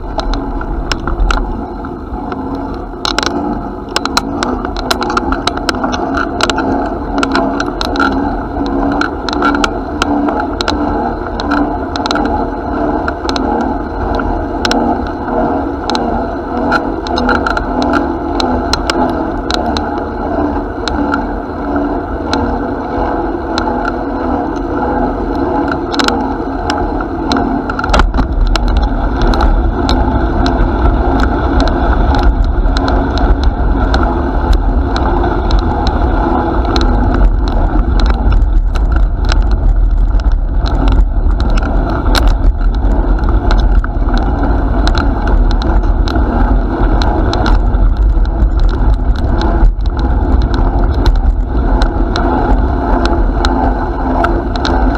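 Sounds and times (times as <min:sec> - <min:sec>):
bicycle rolling noise: 0:00.0 - 0:54.9
small clicks and rattles: 0:00.0 - 0:54.9
wind rumble: 0:00.0 - 0:54.9.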